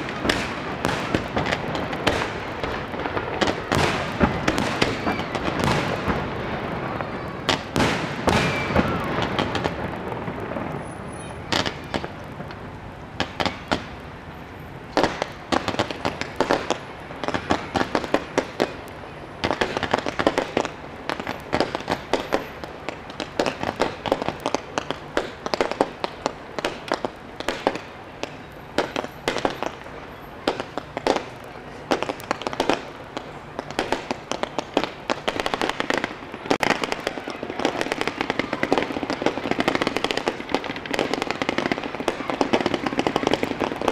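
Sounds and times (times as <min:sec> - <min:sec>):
fireworks bursting with sharp bangs: 0:00.0 - 0:43.9.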